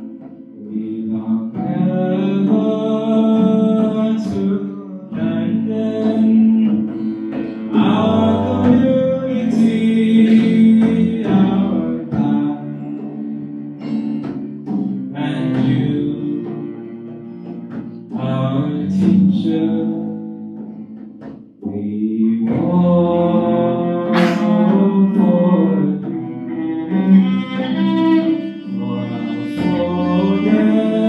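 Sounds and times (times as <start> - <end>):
person singing: 0.0 - 13.7, 14.8 - 20.8, 21.6 - 31.0
acoustic guitar: 0.0 - 31.0.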